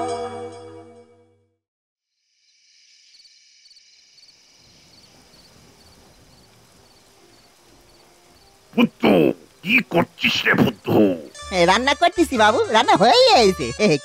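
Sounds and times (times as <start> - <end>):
crickets chirping: 2.2 - 14.0.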